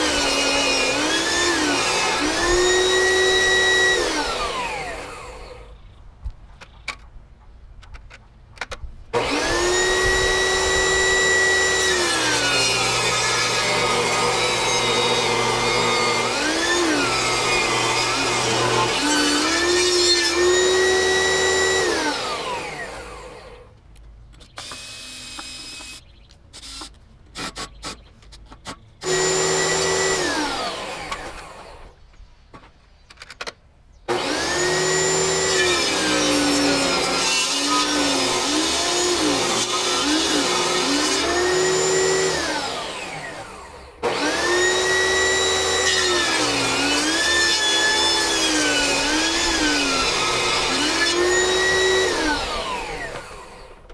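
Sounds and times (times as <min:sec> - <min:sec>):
table saw cutting wood: 0:00.0 - 0:05.7, 0:09.2 - 0:23.7, 0:24.6 - 0:26.0, 0:29.0 - 0:31.9, 0:34.1 - 0:53.9.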